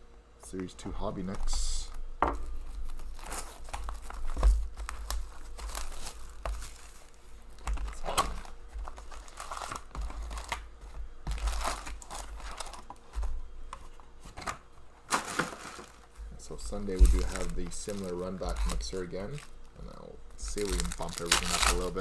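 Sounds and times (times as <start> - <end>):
foil packs crinkling: 0.6 - 13.4, 14.4 - 22.0.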